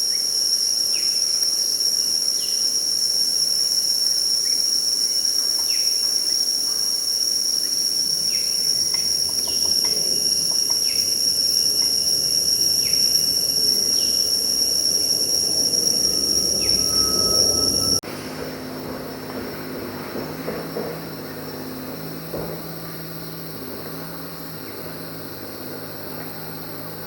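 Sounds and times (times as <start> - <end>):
insects droning at high pitch: 0.0 - 27.0.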